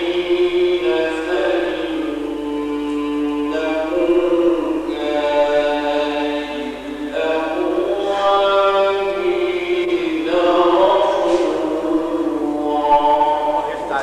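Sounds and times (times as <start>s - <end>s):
man reciting in melodic chant: 0.0s - 14.0s.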